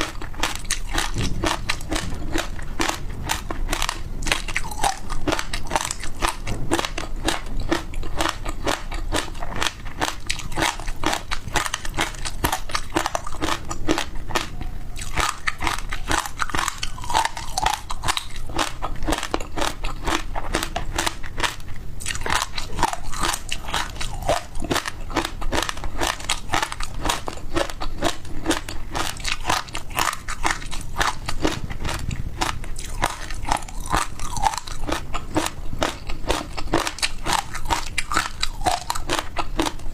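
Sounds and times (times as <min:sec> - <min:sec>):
crunchy chewing of frozen food: 0:00.0 - 0:39.9.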